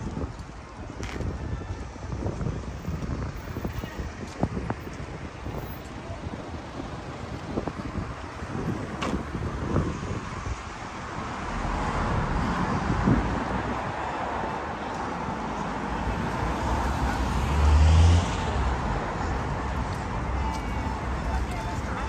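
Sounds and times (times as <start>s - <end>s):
street traffic passing: 0.0s - 22.0s.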